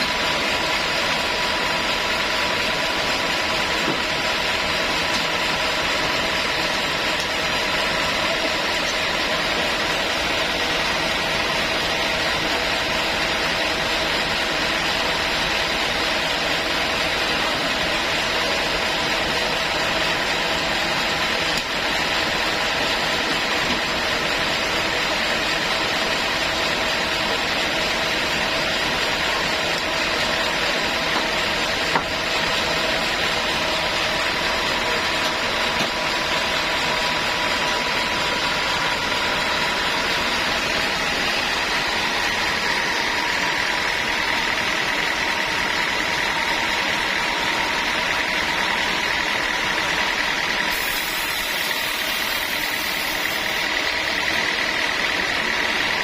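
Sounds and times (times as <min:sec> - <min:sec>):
sawmill saw whining: 0:00.0 - 0:56.0.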